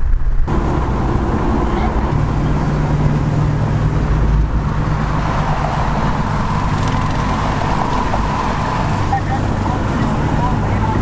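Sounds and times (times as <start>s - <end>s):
car engine and exhaust droning: 0.0s - 11.0s
road and wind noise: 0.0s - 11.0s.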